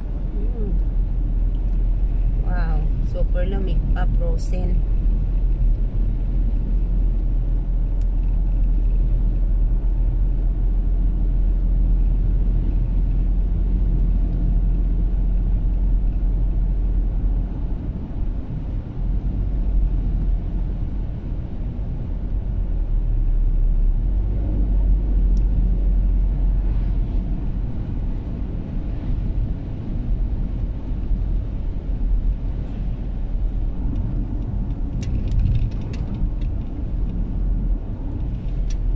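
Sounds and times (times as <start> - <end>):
engine and tyres rumbling: 0.0 - 38.9.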